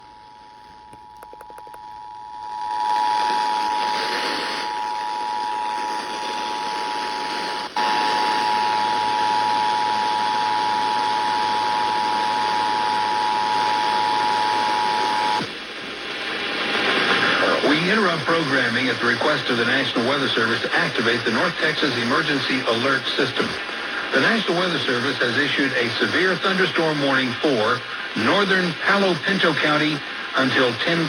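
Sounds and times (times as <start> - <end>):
radio hiss: 0.0 - 31.0.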